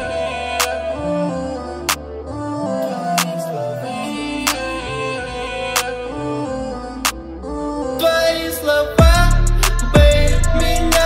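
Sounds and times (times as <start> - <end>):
instrumental music with slow beat: 0.0 - 11.0.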